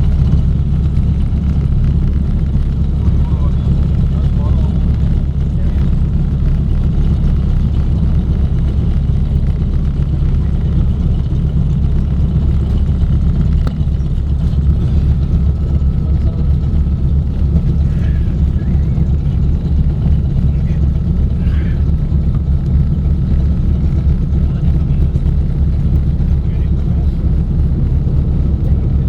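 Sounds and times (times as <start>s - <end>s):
propeller engines droning: 0.0s - 29.0s.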